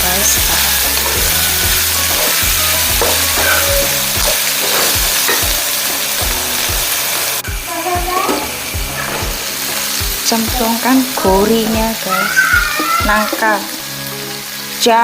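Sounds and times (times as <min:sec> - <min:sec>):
food sizzling in a hot pan: 0:00.0 - 0:15.0.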